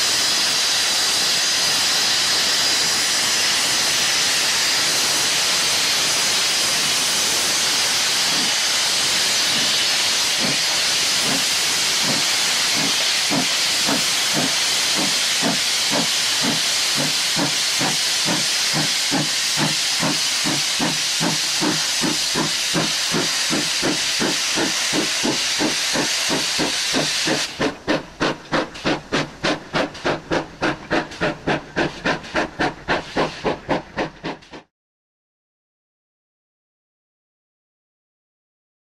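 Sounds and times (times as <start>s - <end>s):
steam locomotive exhaust chuffs: 0.0s - 34.7s
steam locomotive hissing: 0.0s - 34.7s.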